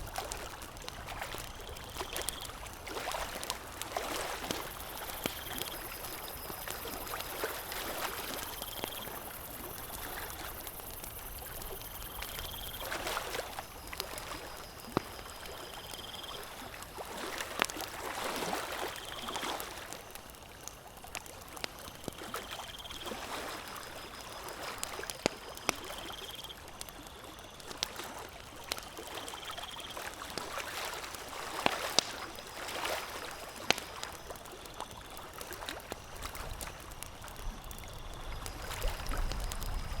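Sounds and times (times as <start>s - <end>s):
lake water lapping: 0.0s - 20.5s, 27.2s - 40.0s
campfire crackling and popping: 0.0s - 40.0s.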